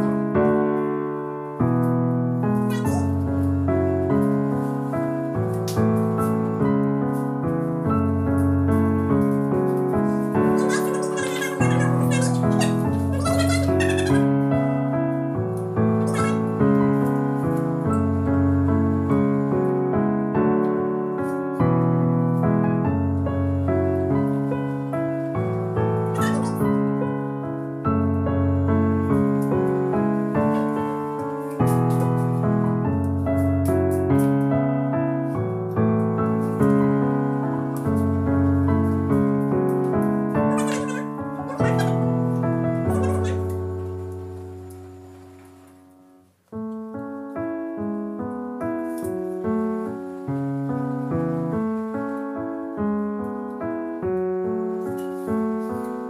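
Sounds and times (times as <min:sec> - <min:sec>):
calm piano music: 0:00.0 - 0:56.0.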